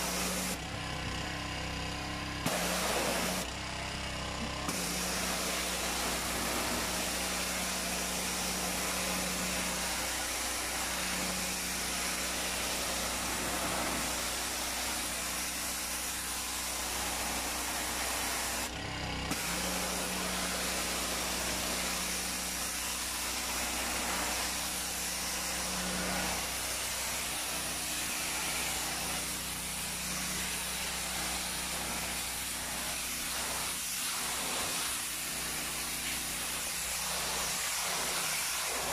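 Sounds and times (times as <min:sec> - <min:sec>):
water jet hissing on floor: 0:00.0 - 0:00.6, 0:02.5 - 0:03.5, 0:04.7 - 0:18.7, 0:19.3 - 0:38.9
pressure washer engine drone: 0:00.0 - 0:38.9.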